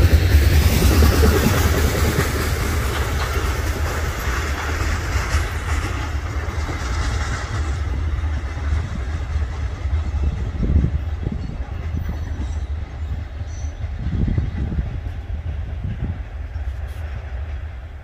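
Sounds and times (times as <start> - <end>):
freight train rumbling past: 0.0 - 18.0
train wheels hissing: 0.0 - 18.0.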